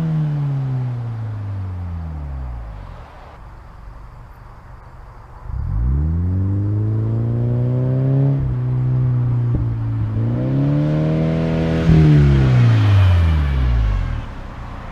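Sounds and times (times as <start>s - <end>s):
car engine accelerating hard: 0.0s - 3.4s, 5.4s - 14.9s.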